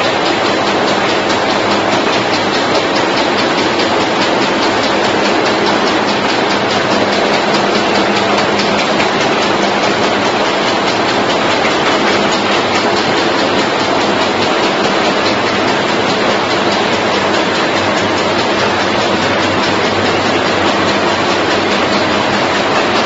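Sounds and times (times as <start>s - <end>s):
low machine hum: 0.0s - 23.0s
machine clatter of rapid ticks: 0.0s - 23.0s.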